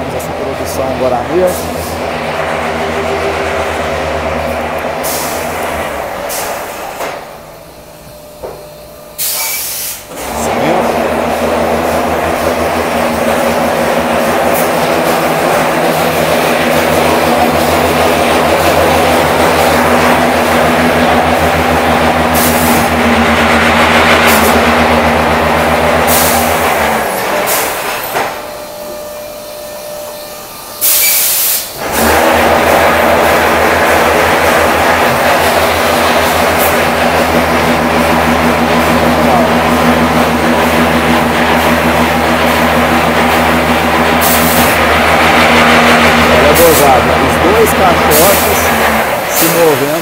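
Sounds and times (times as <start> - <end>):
loud burst of noise: 0.0 - 7.6, 9.2 - 28.6, 30.7 - 50.0
machinery humming: 0.0 - 50.0.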